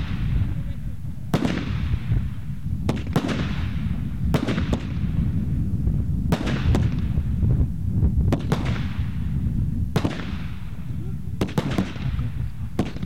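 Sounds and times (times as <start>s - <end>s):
low rumble: 0.0s - 12.9s
fireworks bangs: 0.0s - 13.0s.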